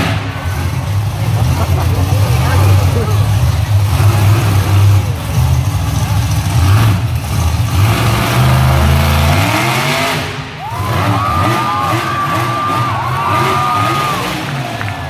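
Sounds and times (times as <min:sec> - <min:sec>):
arena crowd noise: 0:00.0 - 0:15.0
truck engine revving hard: 0:00.0 - 0:15.0.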